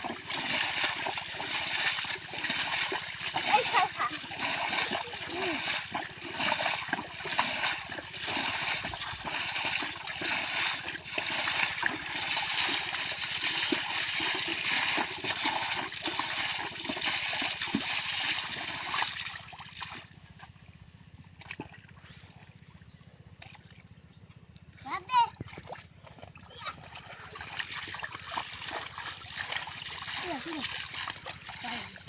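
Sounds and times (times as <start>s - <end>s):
shallow water splashing: 0.0s - 20.2s, 25.3s - 32.0s.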